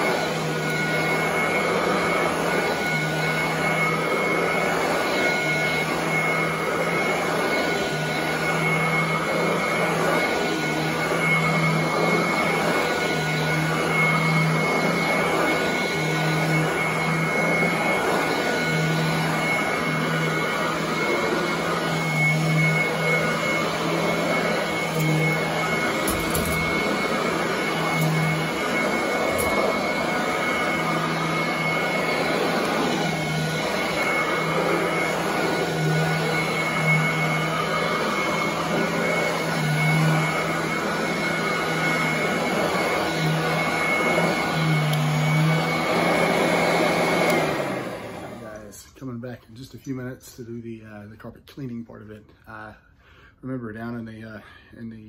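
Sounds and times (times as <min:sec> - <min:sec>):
vacuum cleaner on carpet: 0:00.0 - 0:49.1.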